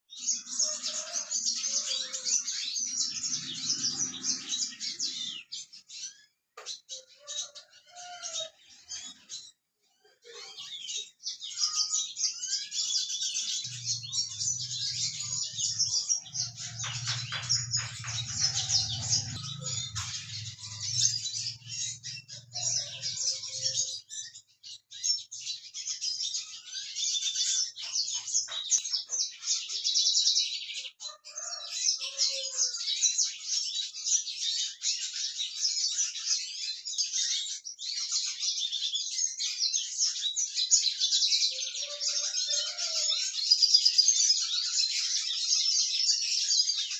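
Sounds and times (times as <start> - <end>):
finches twittering and chirping: 0.1 - 9.6, 10.2 - 46.9.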